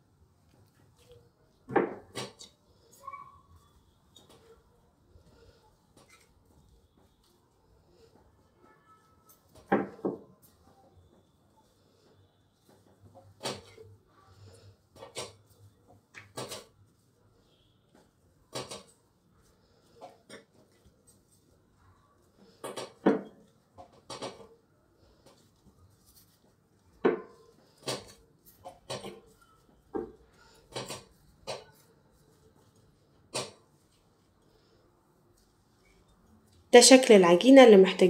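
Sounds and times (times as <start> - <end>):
dough squishing: 0.0 - 37.6.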